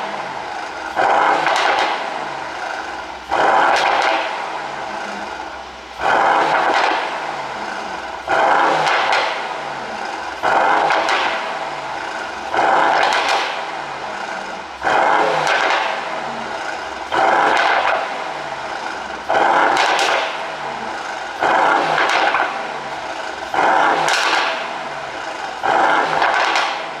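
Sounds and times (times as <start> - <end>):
engine revving: 0.0 - 27.0
exhaust pops and crackles: 0.0 - 27.0.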